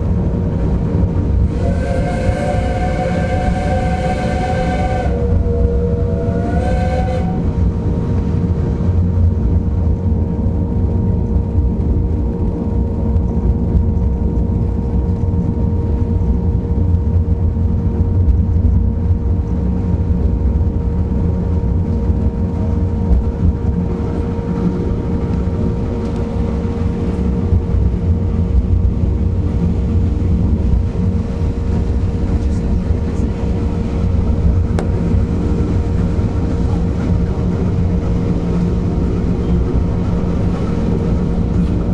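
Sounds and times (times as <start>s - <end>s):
railway carriage rumbling on track: 0.0s - 41.9s.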